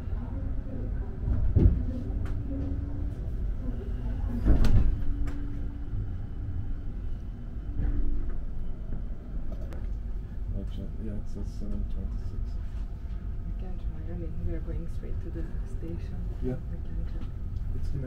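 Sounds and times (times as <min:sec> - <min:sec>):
faint steady hum: 0:00.0 - 0:18.0
train rumbling: 0:00.0 - 0:18.0.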